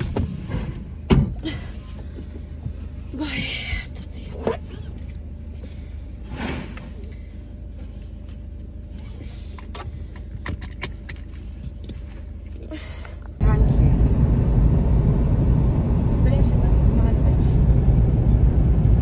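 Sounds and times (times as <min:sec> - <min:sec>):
car road and engine noise: 0:00.0 - 0:19.0
low steady hum: 0:00.0 - 0:19.0.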